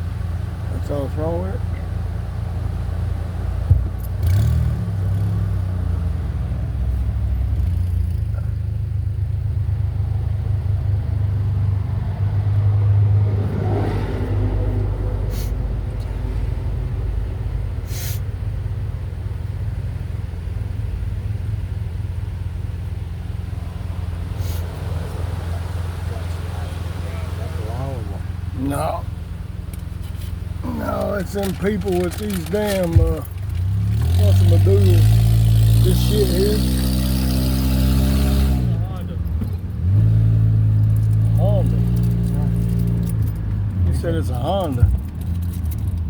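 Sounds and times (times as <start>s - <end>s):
motor vehicle running: 0.0s - 46.0s.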